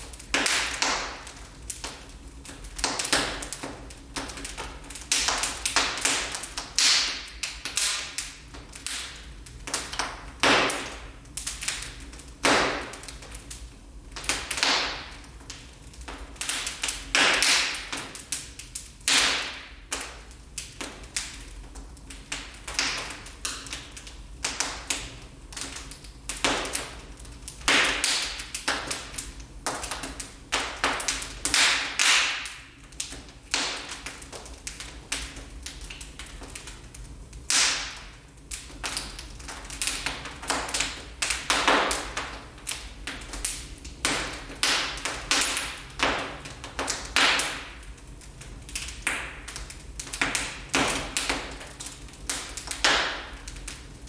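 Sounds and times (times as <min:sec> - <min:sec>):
fire crackling and popping: 0:00.0 - 0:54.0
low steady fire rumble: 0:00.0 - 0:54.0.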